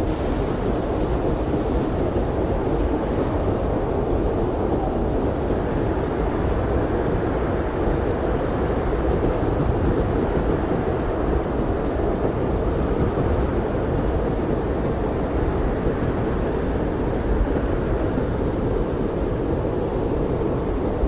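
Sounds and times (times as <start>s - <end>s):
blizzard wind rushing: 0.0s - 21.0s.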